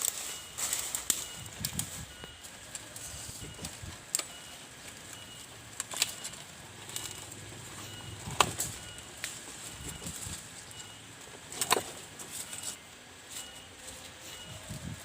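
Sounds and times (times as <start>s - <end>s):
steady forest hiss: 0.0s - 15.0s.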